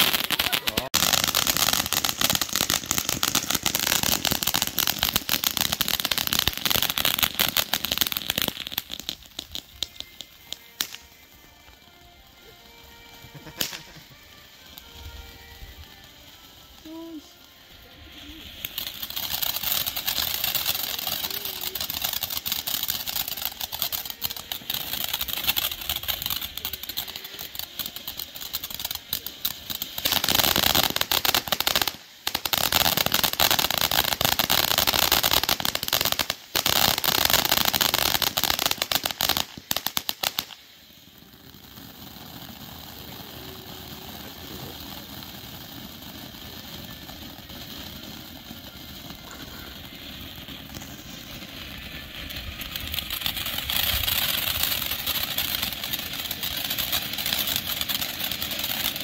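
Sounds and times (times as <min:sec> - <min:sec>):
hiss of sparks: 0:00.0 - 0:11.6, 0:12.3 - 0:59.0
fountain firework crackling: 0:00.0 - 0:59.0.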